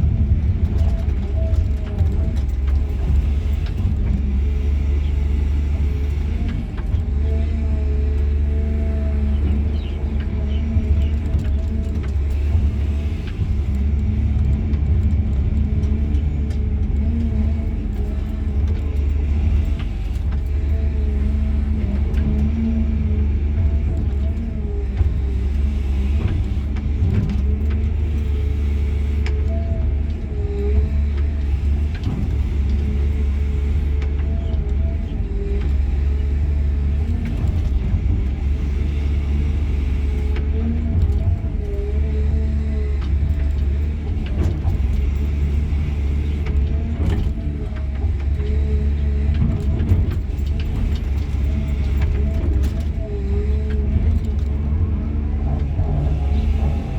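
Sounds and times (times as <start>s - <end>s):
excavator diesel engine drone: 0.0s - 56.9s.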